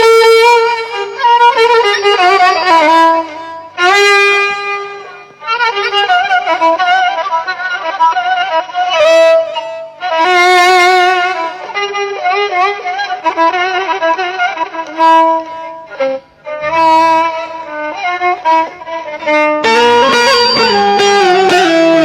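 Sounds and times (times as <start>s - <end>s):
violin playing slow melody: 0.0s - 22.0s.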